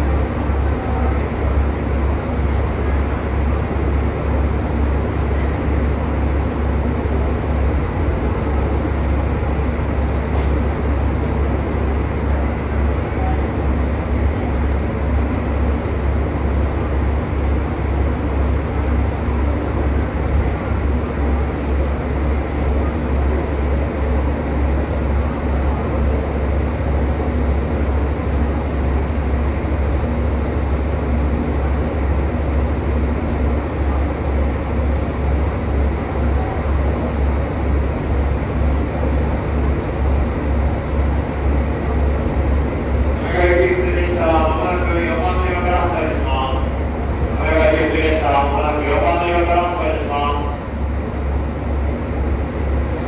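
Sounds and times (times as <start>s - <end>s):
crowded platform noise: 0.0s - 53.0s
electric train humming: 0.0s - 53.0s.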